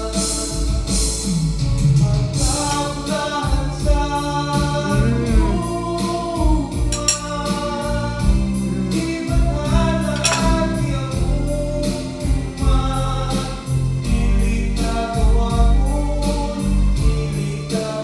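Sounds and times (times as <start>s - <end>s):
gospel-style song with beat: 0.0s - 18.0s.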